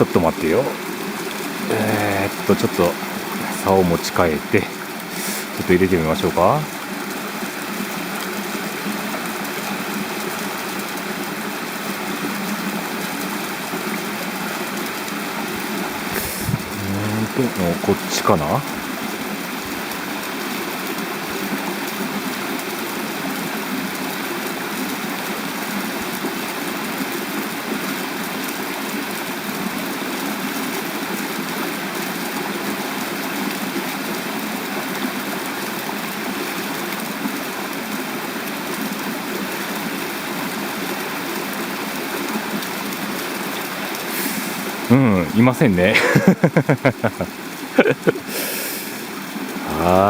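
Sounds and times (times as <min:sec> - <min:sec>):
stream water rushing over dam: 0:00.0 - 0:50.0.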